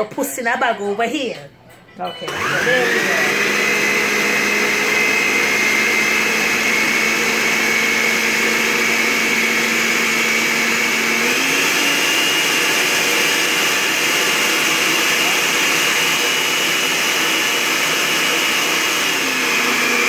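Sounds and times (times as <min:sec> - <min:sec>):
blender motor running: 0:02.3 - 0:20.0.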